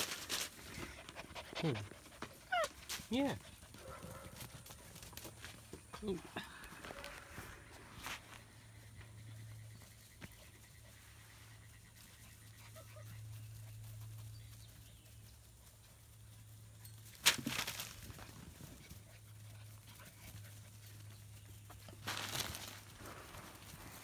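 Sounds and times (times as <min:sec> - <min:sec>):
puppies scuffling on grass: 0:00.0 - 0:24.0.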